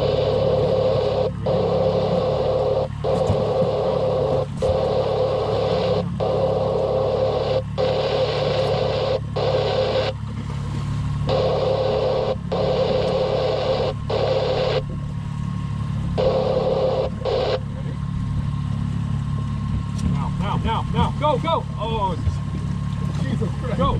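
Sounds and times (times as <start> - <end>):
outboard motor running: 0.0 - 23.9.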